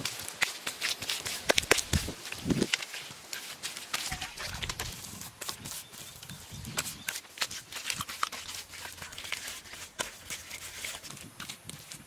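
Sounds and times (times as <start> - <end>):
hands patting wet mud: 0.0 - 12.0.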